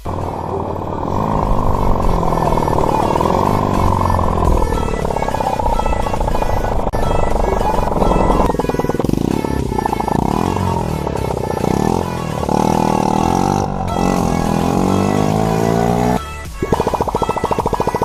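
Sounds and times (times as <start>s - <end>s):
kart engine revving: 0.0s - 18.0s.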